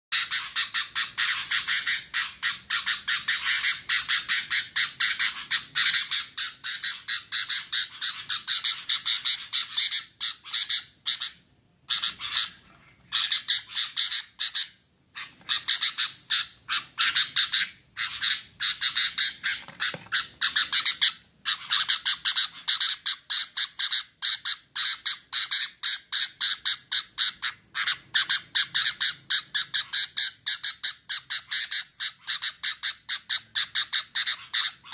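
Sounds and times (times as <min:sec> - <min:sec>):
bird harsh chattering calls: 0:00.1 - 0:34.9.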